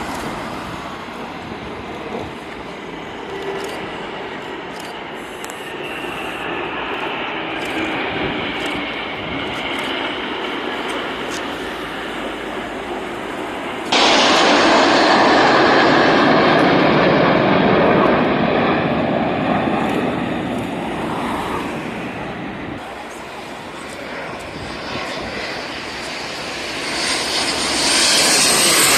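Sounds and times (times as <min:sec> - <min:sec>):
jet engine roar: 0:00.0 - 0:28.9.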